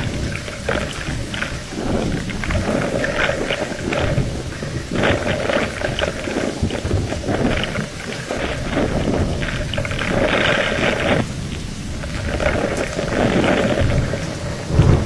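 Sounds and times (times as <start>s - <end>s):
constant low rumble: 0.0s - 15.0s
gusting wind: 0.0s - 15.0s
heavy rain: 0.0s - 15.0s.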